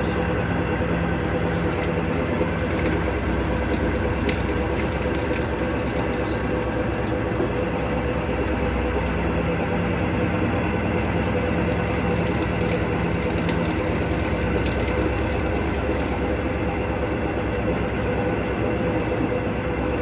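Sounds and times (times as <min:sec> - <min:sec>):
washing machine rumble and hum: 0:00.0 - 0:20.0.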